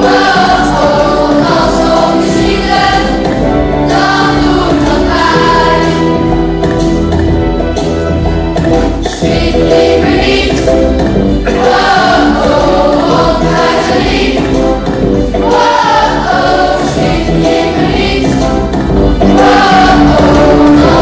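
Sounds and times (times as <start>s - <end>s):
children singing together: 0.0s - 6.4s, 9.2s - 21.0s
instrumental accompaniment: 0.0s - 21.0s.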